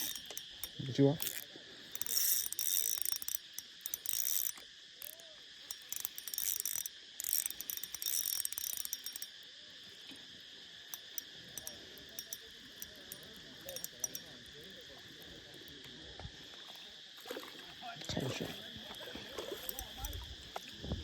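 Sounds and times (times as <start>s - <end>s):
fishing reel cranking: 0.0s - 16.1s, 17.3s - 20.8s
crickets chirring: 0.0s - 21.0s.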